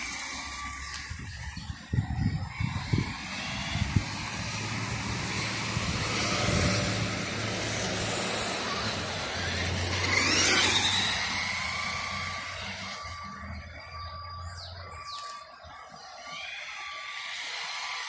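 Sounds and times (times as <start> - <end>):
motor whine: 0.0 - 18.0
toy truck drivetrain whirring: 0.0 - 18.0.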